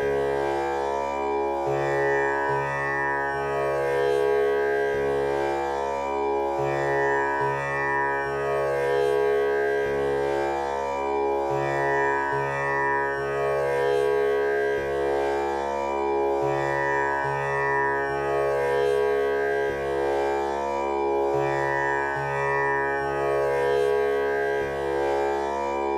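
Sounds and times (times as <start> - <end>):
tanpura drone: 0.0 - 25.9.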